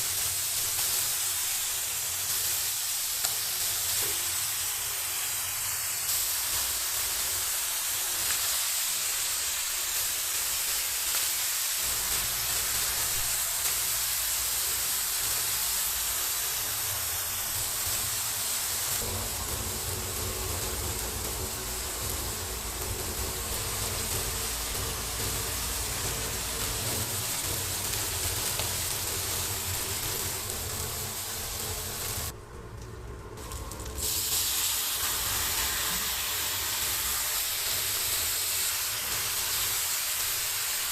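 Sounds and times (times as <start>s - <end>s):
food sizzling on a griddle: 0.0s - 32.3s, 33.4s - 40.9s.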